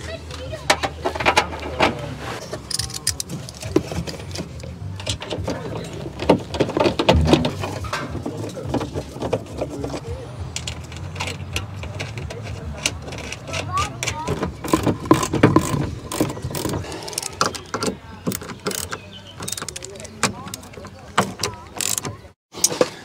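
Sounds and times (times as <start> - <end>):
clicks and knocks on plastic and metal: 2.6 - 22.3.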